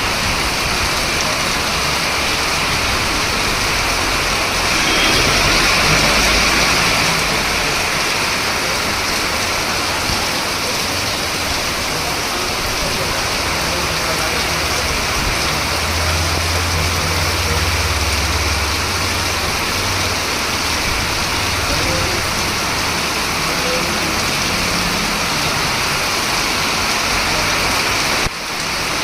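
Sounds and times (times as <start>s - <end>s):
low engine rumble: 0.0s - 28.1s
heavy rain falling: 0.0s - 29.0s.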